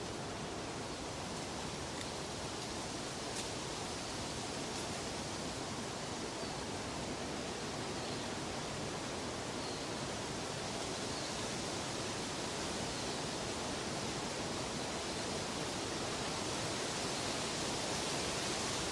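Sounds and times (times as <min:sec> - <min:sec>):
steady rushing water: 0:00.0 - 0:18.9.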